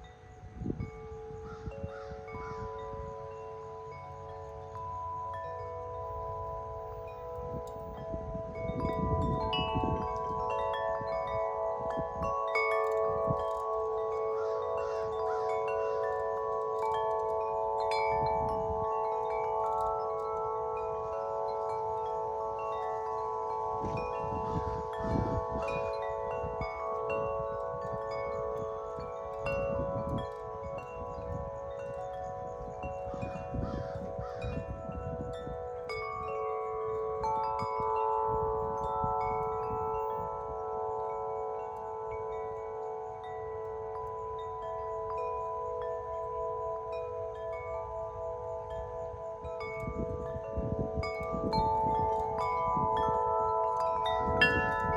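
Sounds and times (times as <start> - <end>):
large wind chimes ringing: 0.0 - 54.9
wind rumbling on microphone: 0.0 - 54.9.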